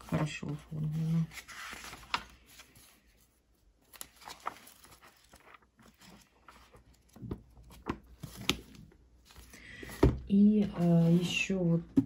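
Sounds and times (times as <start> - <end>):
book pages turning: 0.0 - 11.5.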